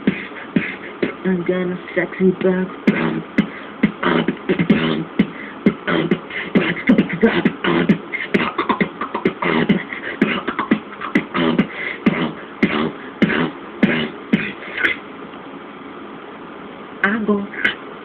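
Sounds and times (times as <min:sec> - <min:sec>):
beatboxing: 0:00.0 - 0:15.0, 0:17.5 - 0:17.9.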